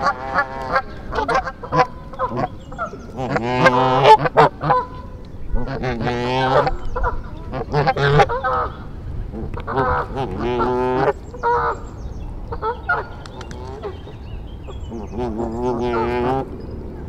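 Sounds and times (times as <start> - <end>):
geese honking: 0.0 - 11.9, 12.5 - 16.6.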